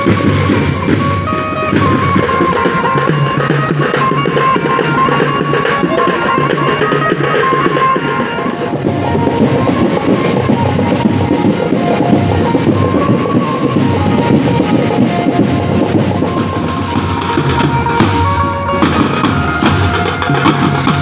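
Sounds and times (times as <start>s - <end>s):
fast loud drumming: 0.0s - 21.0s.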